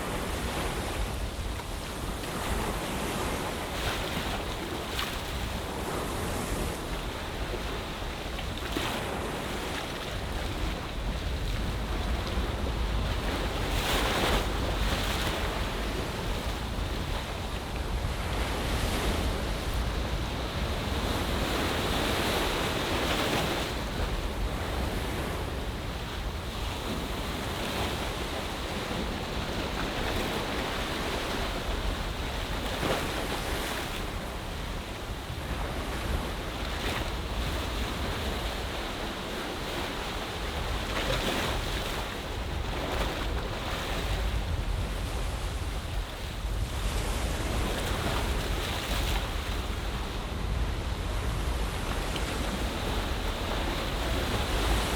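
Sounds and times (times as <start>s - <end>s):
waves washing onto shore: 0.0s - 54.9s
wind rumbling on microphone: 0.0s - 54.9s.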